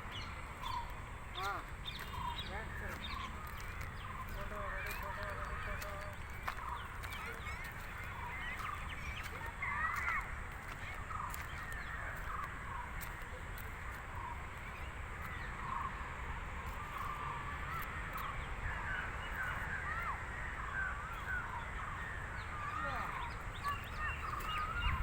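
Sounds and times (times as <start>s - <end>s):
birds chirping and squawking: 0.0s - 25.0s.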